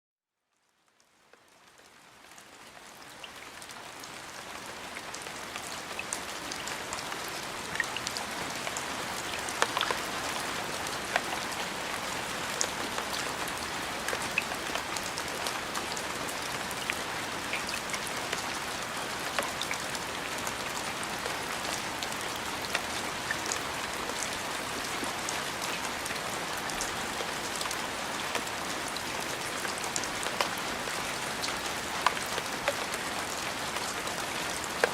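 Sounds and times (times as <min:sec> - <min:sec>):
steady rain hiss: 0:00.6 - 0:34.9
raindrops ticking: 0:04.4 - 0:34.9.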